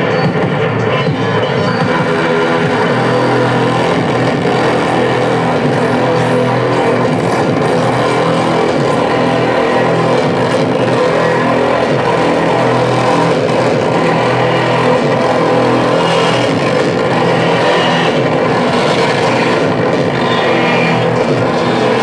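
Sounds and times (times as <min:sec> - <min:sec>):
distorted noise drone: 0:00.0 - 0:22.0.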